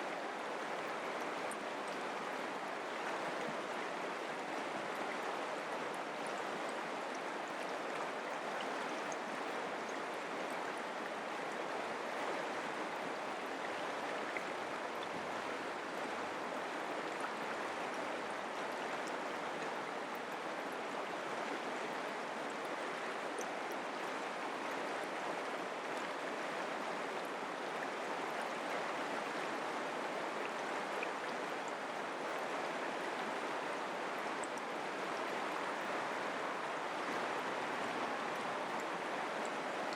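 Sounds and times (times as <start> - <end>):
mountain creek flowing: 0.0 - 39.9.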